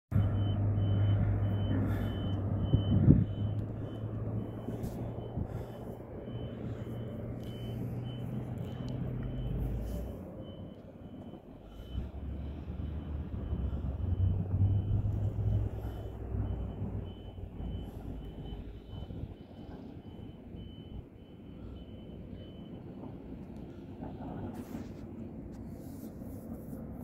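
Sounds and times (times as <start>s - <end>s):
reversing alarm beeping: 0.1s - 26.6s
heavy vehicle engines humming: 0.1s - 27.0s.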